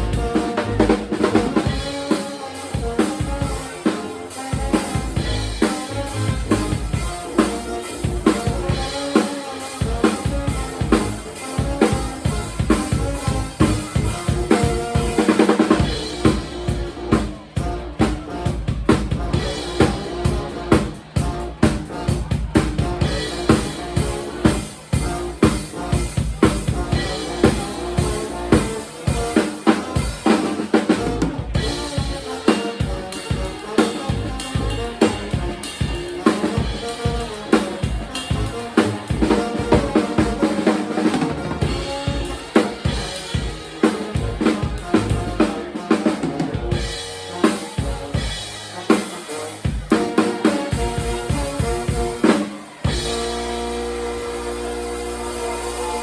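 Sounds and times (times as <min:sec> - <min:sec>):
bass drum and snare beat: 0:00.0 - 0:54.6
live band playing: 0:00.0 - 0:56.0.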